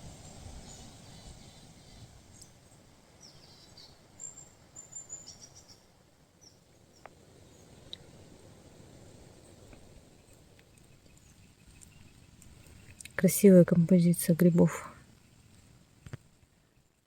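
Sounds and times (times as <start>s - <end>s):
small birds chirping: 0.6s - 8.2s, 9.4s - 17.0s.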